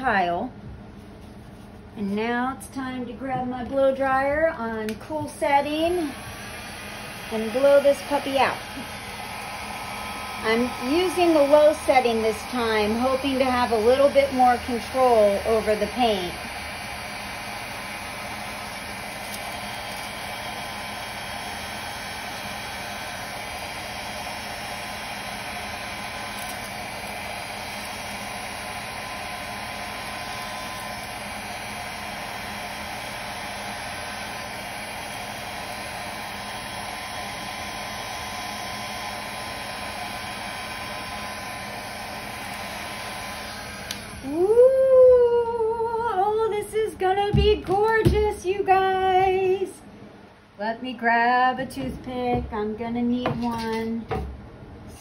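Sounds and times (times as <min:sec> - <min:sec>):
hair dryer blowing air: 0:03.4 - 0:49.9.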